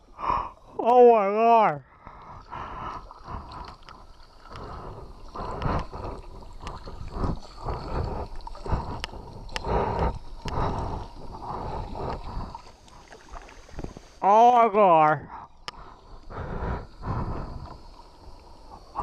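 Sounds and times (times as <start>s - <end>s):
water rushing and splashing: 0.0s - 19.0s.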